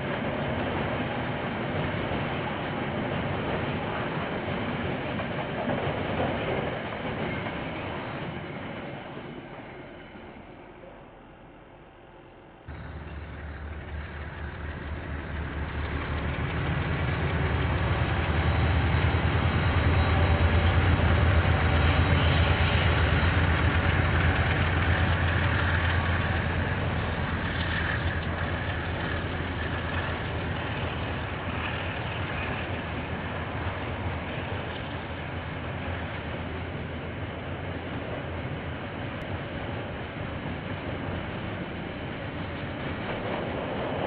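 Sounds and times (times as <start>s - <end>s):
diesel locomotive passing: 0.0s - 44.0s.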